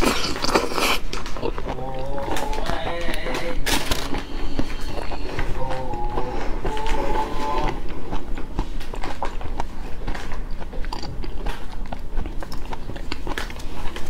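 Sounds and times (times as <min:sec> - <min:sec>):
mouth chewing prawn: 0:00.0 - 0:14.0.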